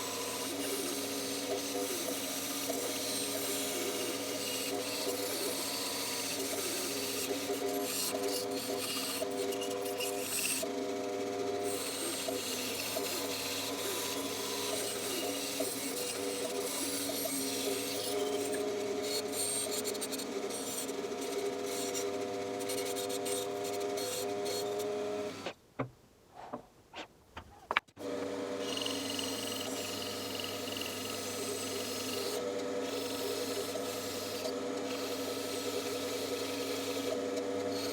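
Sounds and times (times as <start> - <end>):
bandsaw motor humming: 0.0 - 25.4, 28.0 - 37.9
saw blade cutting wood: 0.0 - 25.5, 28.6 - 37.9.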